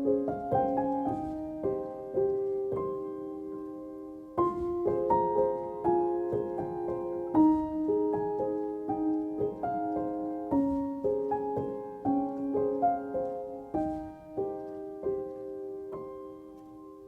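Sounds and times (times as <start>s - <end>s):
slow solo piano melody: 0.0s - 17.0s.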